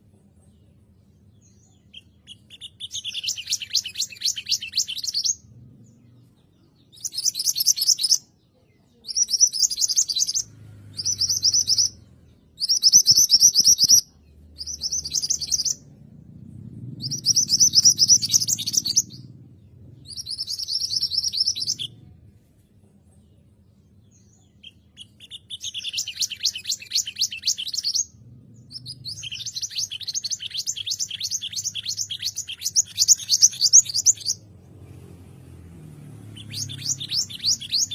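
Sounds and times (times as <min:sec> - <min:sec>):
bird song with fast high trills: 0:00.0 - 0:37.9.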